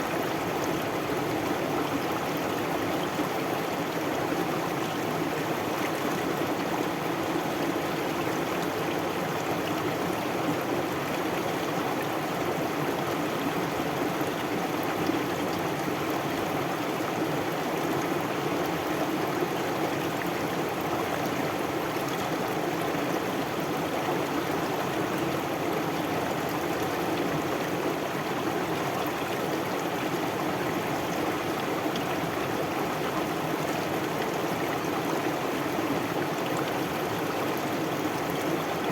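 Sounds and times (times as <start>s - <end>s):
stream of running water: 0.0s - 38.9s.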